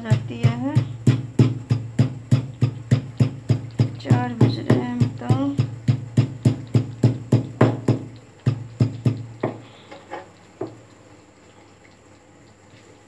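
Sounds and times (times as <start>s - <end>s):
cat lapping milk: 1.7s - 13.0s.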